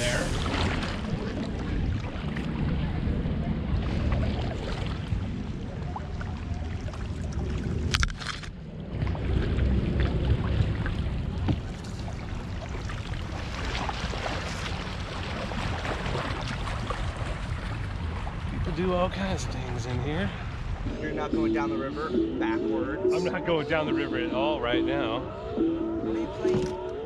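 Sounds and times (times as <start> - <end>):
water sloshing: 0.0 - 27.0
wind rumble on microphone: 0.0 - 27.0.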